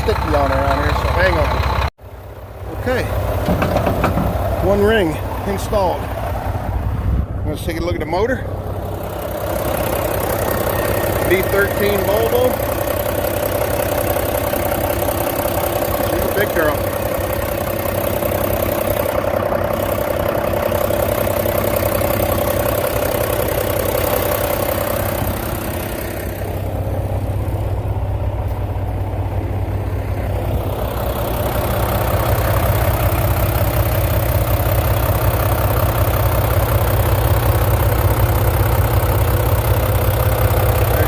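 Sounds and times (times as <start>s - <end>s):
diesel truck engine idling: 0.0s - 41.0s.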